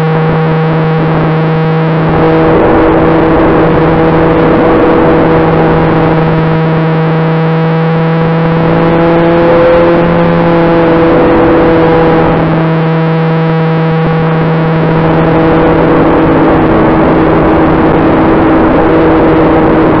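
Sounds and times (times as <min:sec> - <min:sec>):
model airplane motor whine: 0:00.0 - 0:20.0
rush of air: 0:00.1 - 0:20.0.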